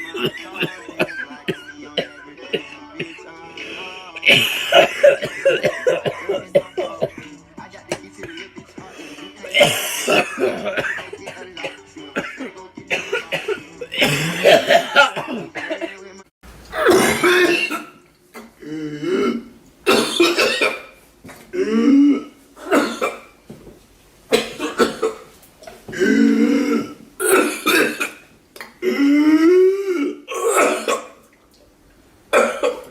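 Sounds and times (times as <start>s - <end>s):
person coughing: 0.0s - 3.2s, 4.2s - 16.1s, 16.7s - 20.9s, 21.6s - 23.3s, 24.3s - 25.3s, 25.9s - 28.2s, 28.8s - 31.2s, 32.3s - 32.9s.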